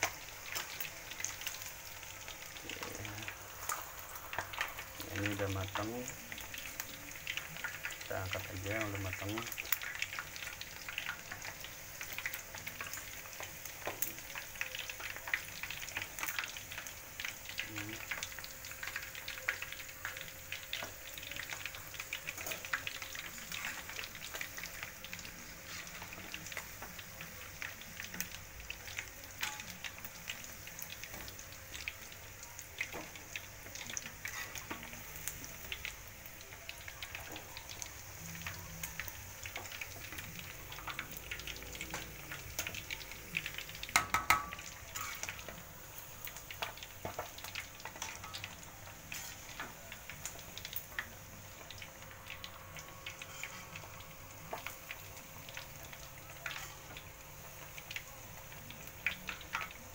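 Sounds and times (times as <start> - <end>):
chicken deep-frying in oil: 0.0 - 59.9.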